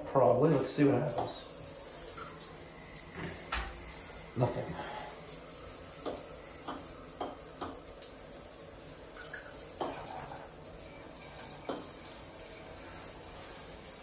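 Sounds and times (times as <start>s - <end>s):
weak shower spray trickling: 0.5s - 14.0s.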